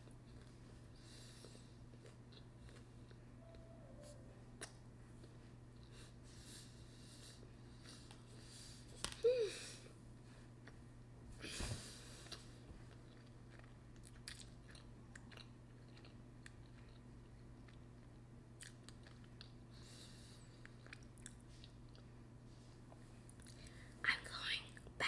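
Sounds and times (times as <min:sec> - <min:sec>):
chewing soft noodles: 0:00.0 - 0:09.0, 0:10.2 - 0:11.0, 0:11.8 - 0:23.8.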